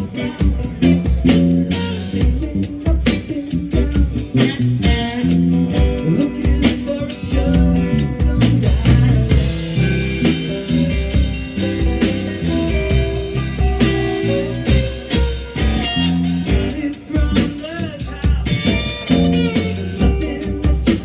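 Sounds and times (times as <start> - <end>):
band music with guitar and drums: 0.0 - 21.0.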